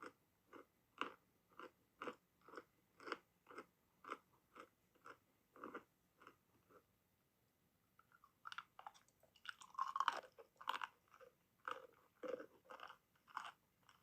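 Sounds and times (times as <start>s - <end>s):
crunchy chewing: 0.0s - 6.9s, 8.0s - 14.0s.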